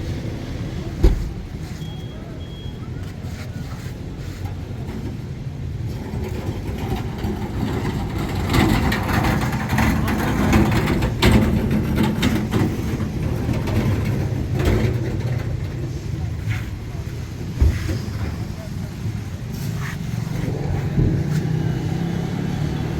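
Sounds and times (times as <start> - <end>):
engine rumbling: 0.0 - 22.9.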